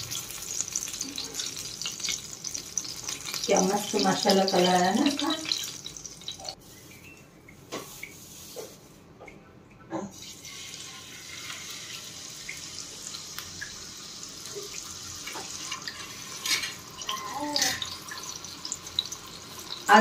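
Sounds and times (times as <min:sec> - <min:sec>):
kebabs sizzling in oil: 0:00.0 - 0:09.1, 0:10.1 - 0:20.0.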